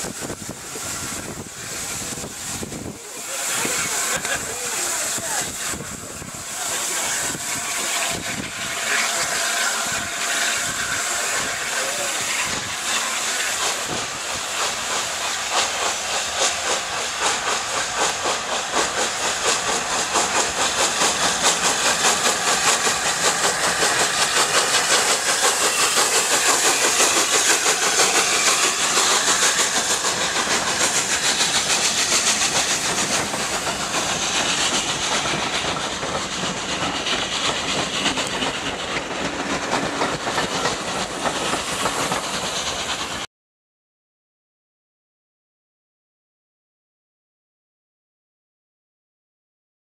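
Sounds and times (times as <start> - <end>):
steam hissing: 0.0 - 43.3
steam locomotive exhaust beats: 0.0 - 43.3.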